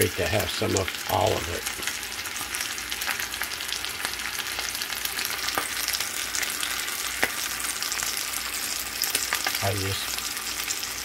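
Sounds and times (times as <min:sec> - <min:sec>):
bacon sizzling in a frying pan: 0:00.0 - 0:11.0.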